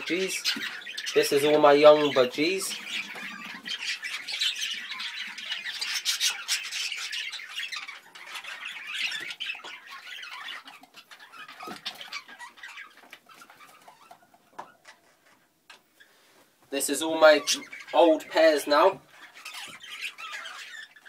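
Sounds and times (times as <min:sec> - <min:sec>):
budgerigars chattering: 0:00.0 - 0:14.3, 0:16.8 - 0:21.0.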